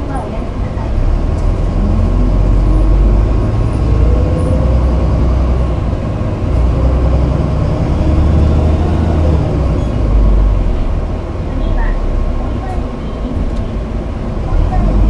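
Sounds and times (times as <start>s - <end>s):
bus engine rumble heard inside: 0.0s - 15.0s
bus whine: 0.0s - 15.0s.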